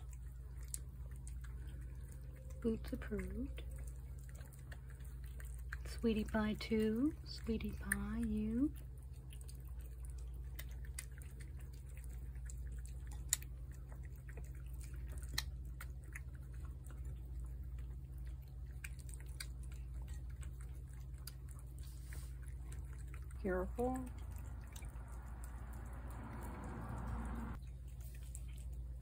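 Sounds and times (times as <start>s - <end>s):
cat chewing and licking: 0.0s - 29.0s
steady low hum: 0.0s - 29.0s.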